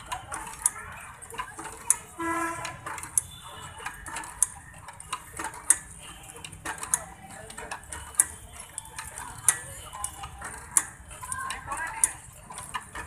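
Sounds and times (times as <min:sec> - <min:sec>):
exercise machine clicking: 0:00.0 - 0:13.0.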